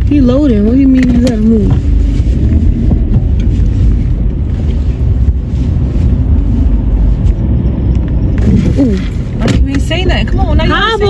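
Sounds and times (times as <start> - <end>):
car engine rumbling inside cabin: 0.0 - 11.0.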